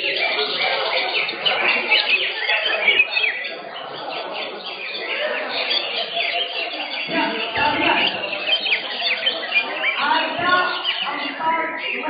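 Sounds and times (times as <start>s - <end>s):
birds singing: 0.0s - 12.0s
voices murmuring: 0.0s - 12.0s.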